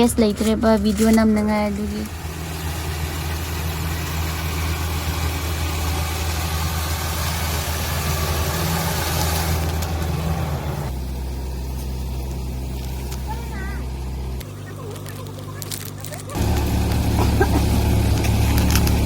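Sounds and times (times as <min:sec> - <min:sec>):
harvester engine running: 0:00.0 - 0:19.0.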